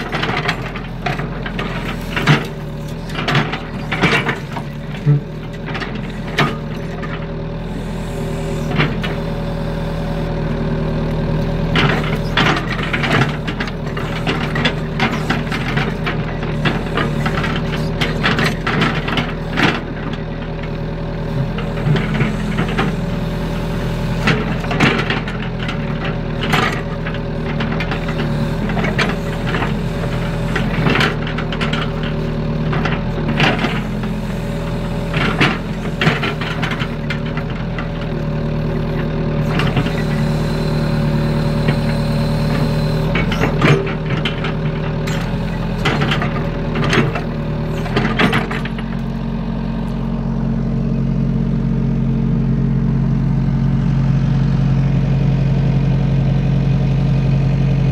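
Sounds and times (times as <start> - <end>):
excavator bucket knocking and rattling: 0.0 - 7.5, 11.6 - 50.5
diesel engine running: 0.0 - 57.9.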